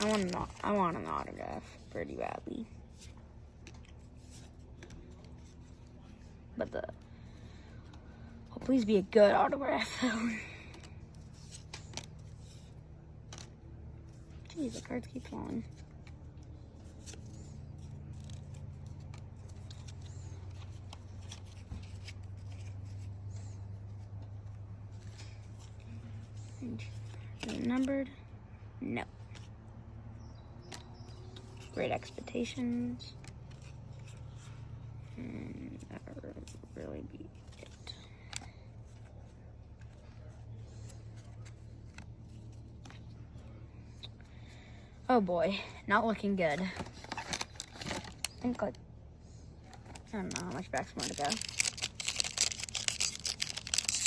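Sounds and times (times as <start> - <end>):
cards clicking and rustling: 0.0 - 9.0, 10.6 - 27.9, 30.6 - 35.2, 36.1 - 44.5, 46.5 - 48.5, 49.6 - 54.0
steady low hum: 0.0 - 54.0.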